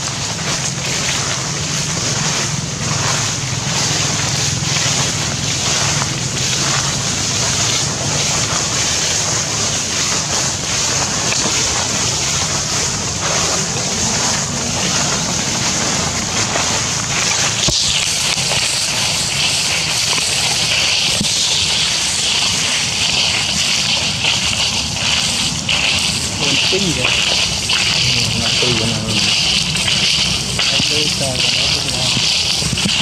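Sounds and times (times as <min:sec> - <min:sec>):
wind on microphone: 0:00.0 - 0:33.0
high hiss: 0:03.1 - 0:33.0.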